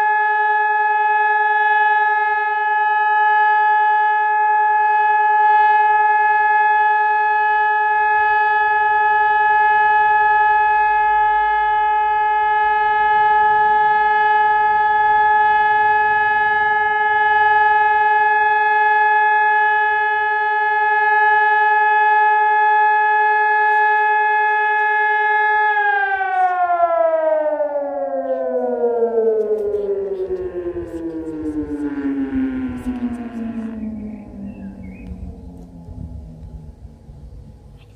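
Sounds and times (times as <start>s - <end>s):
electronic warning siren: 0.0s - 37.9s.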